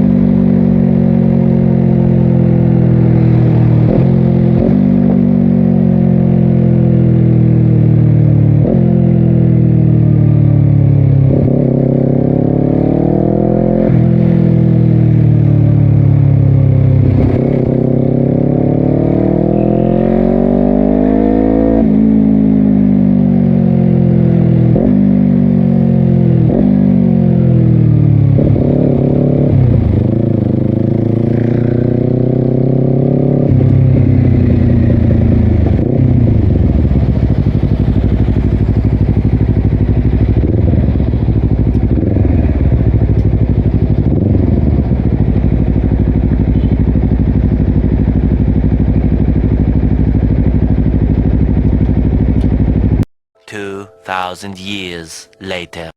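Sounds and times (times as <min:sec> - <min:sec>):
motorcycle engine accelerating and shifting: 0:00.0 - 0:53.0.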